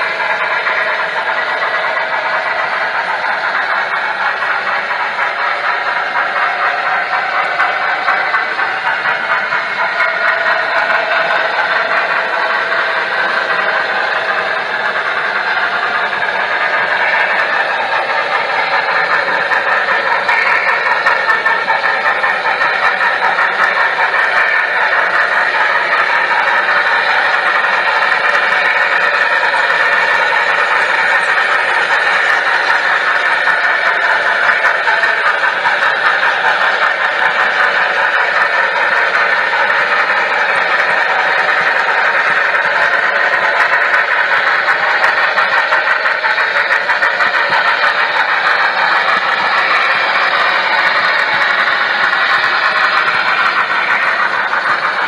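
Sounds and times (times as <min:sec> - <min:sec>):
model steam locomotive sounds from speaker: 0:00.0 - 0:55.0
model train wheels rolling on track: 0:00.0 - 0:55.0.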